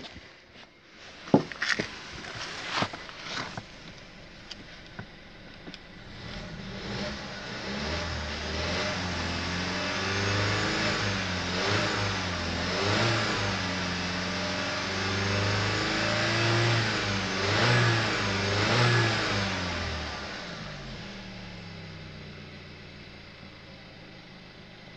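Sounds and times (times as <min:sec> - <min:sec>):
car engine revving: 0:01.4 - 0:24.9.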